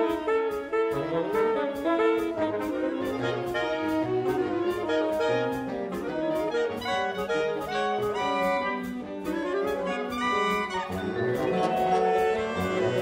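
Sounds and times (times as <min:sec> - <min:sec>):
wind ensemble playing chords: 0:00.0 - 0:13.0.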